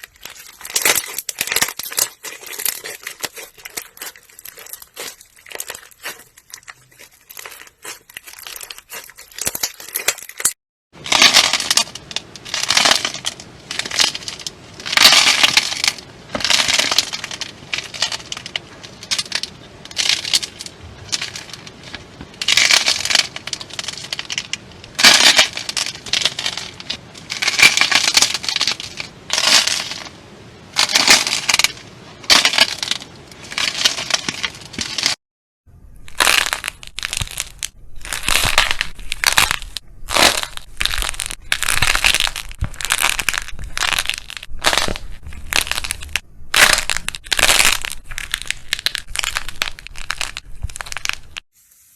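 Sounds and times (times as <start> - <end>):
slime crackling and crunching: 0.0 - 35.2, 35.9 - 51.5.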